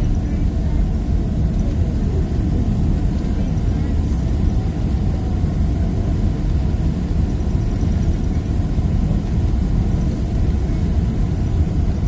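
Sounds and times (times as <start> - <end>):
jet engines idling rumble: 0.0 - 12.0.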